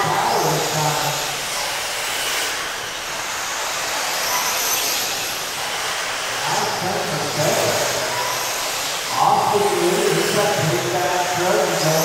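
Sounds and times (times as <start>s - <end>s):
rc car motors whining: 0.0s - 12.0s
steady rushing noise: 0.0s - 12.0s.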